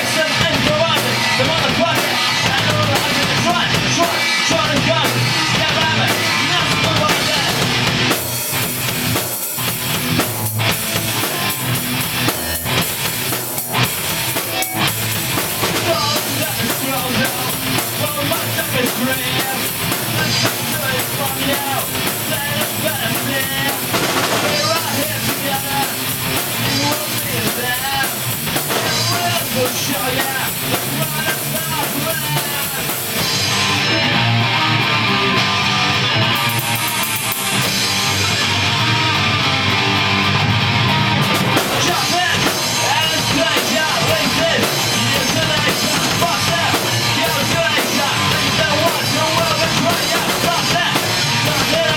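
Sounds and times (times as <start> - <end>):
drum kit: 0.0 - 51.9
punk rock band playing: 0.0 - 51.9.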